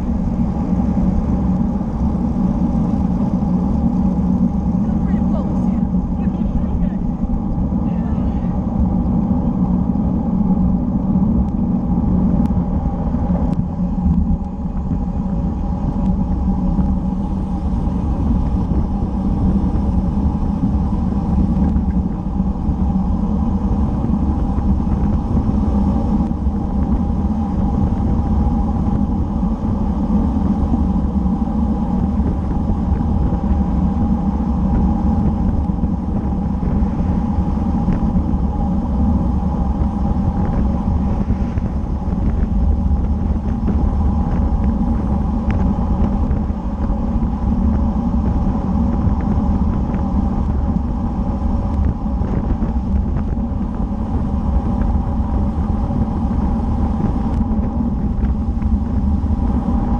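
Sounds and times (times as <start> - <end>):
bike tyres rolling on asphalt: 0.0 - 59.9
faint steady hum: 0.0 - 59.9
wind rushing over microphone: 0.0 - 59.9.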